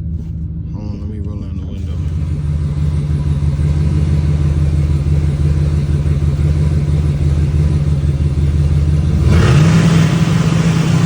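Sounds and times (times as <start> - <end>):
engine rumbling on rev limiter: 0.0 - 11.0
faint turbo whine: 0.0 - 11.0.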